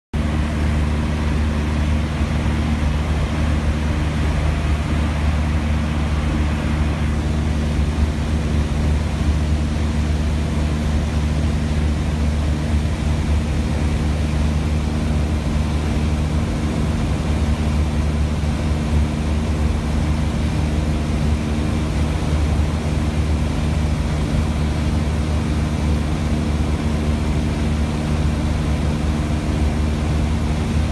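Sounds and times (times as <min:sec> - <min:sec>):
airplane engine and propeller drone: 0:00.2 - 0:30.9.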